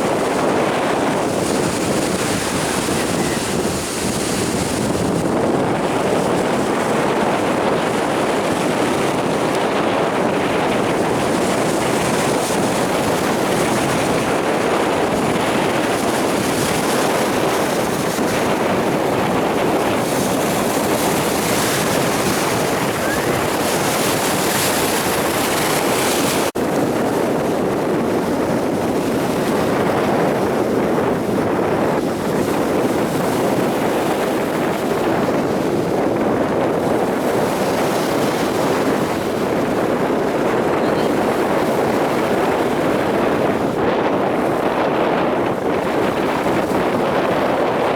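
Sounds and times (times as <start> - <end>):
waves breaking on beach: 0.0 - 47.9
wind buffeting microphone: 0.0 - 47.9.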